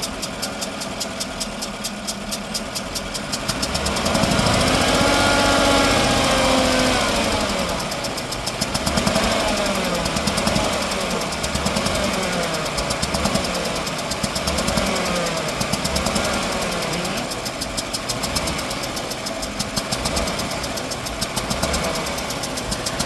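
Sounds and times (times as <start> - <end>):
truck engine ticking: 0.0 - 23.0.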